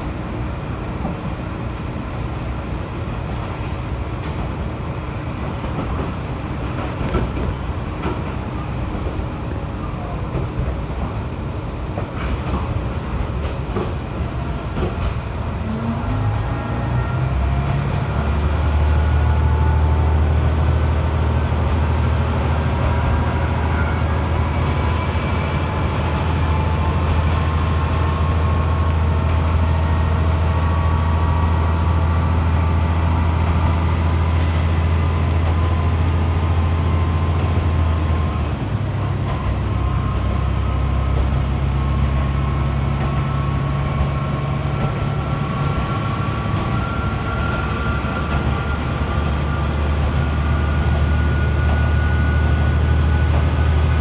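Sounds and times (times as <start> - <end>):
diesel railcar engine drone: 0.0 - 54.0.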